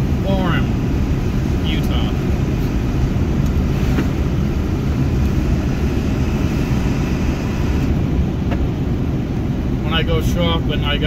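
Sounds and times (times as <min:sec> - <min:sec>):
diesel engine rumble: 0:00.0 - 0:11.0
road noise: 0:00.0 - 0:11.0.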